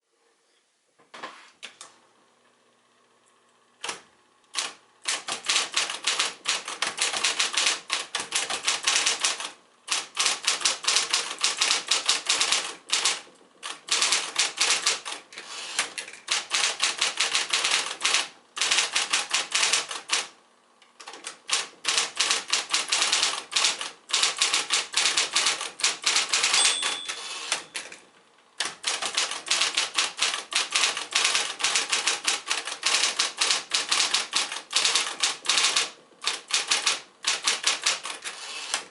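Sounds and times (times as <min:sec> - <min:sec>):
electric typewriter typing: 0:03.8 - 0:20.4, 0:21.0 - 0:28.0, 0:28.6 - 0:38.9.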